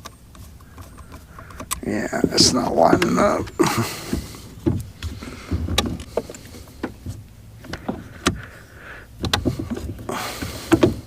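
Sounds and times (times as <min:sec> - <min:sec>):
plastic parts clicking and knocking: 0:00.0 - 0:08.5, 0:09.2 - 0:11.0.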